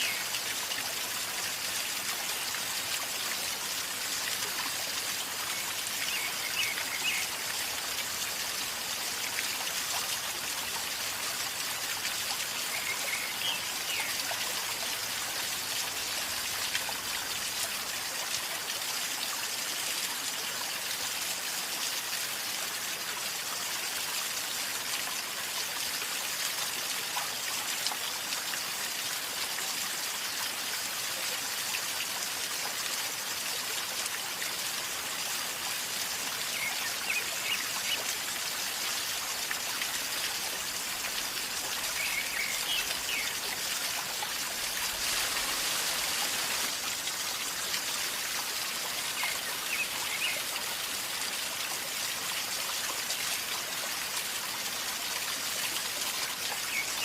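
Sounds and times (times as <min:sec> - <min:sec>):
river gurgling and trickling: 0:00.0 - 0:57.0.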